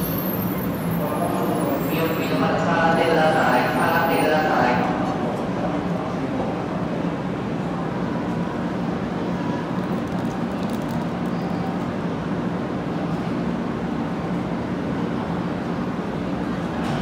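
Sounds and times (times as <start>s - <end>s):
station ambience: 0.0s - 17.0s.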